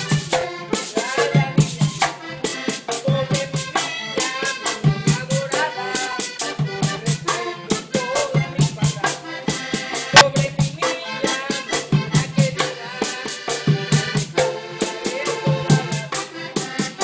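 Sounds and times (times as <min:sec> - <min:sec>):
man singing: 0:00.0 - 0:16.7
button accordions playing: 0:00.0 - 0:17.0
fast percussion strokes: 0:00.0 - 0:17.0
hand drum: 0:00.0 - 0:17.0.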